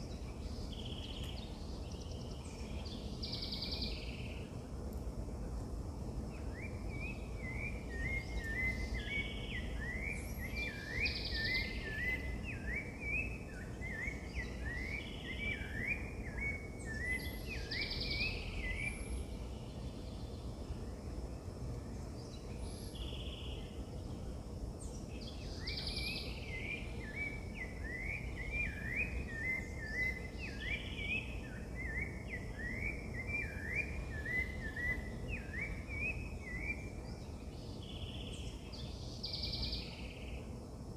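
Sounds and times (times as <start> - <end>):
bird chirping: 0.0 - 4.6, 6.3 - 20.6, 24.8 - 40.6.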